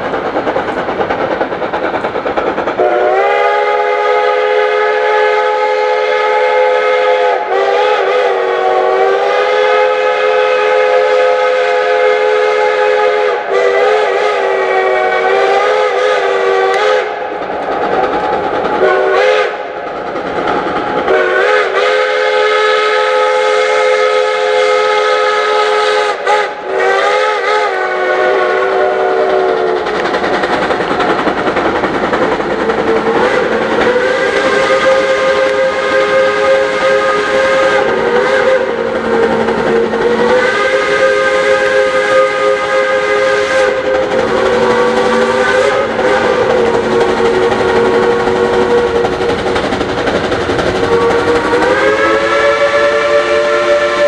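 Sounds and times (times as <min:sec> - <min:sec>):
steam locomotives working: 0:00.0 - 0:54.0
steam locomotive whistle blasts: 0:02.8 - 0:17.3, 0:18.8 - 0:19.8, 0:21.1 - 0:30.0, 0:32.8 - 0:49.4, 0:50.7 - 0:54.0.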